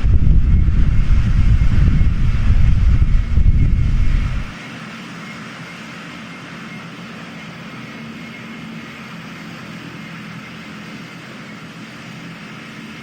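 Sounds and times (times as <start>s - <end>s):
aircraft engines running: 0.0s - 13.0s.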